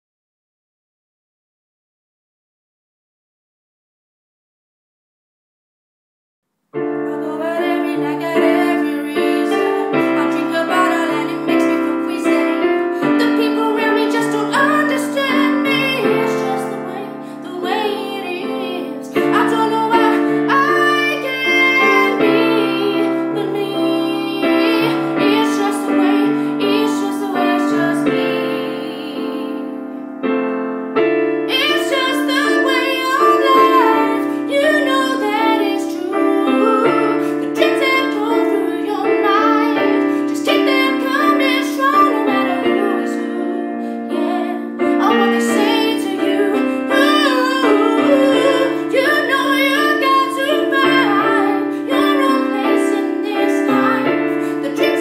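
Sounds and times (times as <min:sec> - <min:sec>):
piano accompaniment: 0:06.8 - 0:55.0
woman singing pop ballad: 0:07.1 - 0:29.7, 0:31.5 - 0:55.0.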